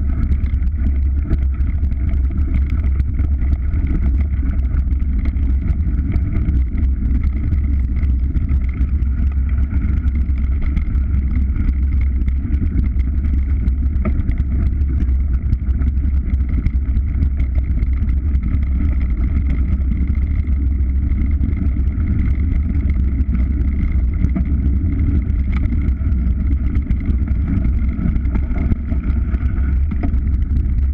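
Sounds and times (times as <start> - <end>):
faint steady hum: 0.0 - 30.9
vehicle low rumble: 0.0 - 30.9.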